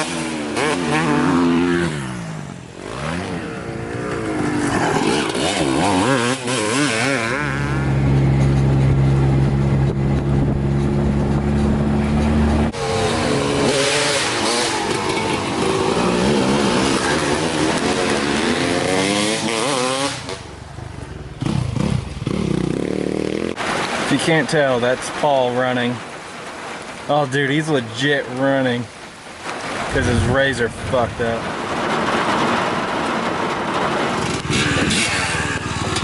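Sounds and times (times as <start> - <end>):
dirt bike engines revving: 0.0 - 25.8, 29.9 - 36.0.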